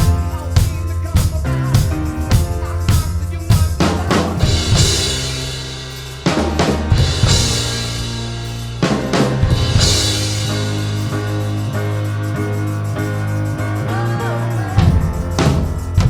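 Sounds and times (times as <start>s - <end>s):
rock music with low chords: 0.0s - 14.1s
drum kit playing: 0.0s - 16.0s.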